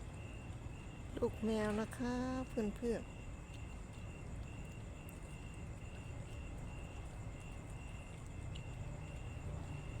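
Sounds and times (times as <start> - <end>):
insect chirping: 0.0 - 10.0
low background rumble: 0.0 - 10.0.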